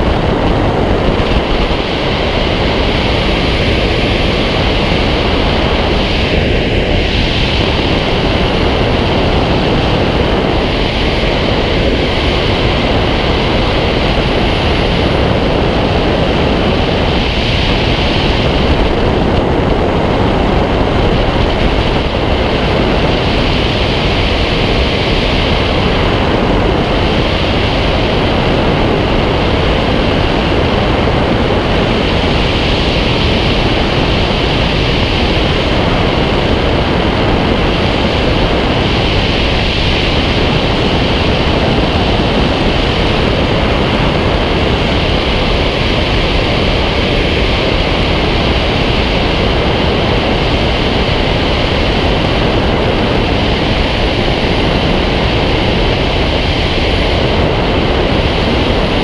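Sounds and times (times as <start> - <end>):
wind roar on microphone: 0.0 - 59.0.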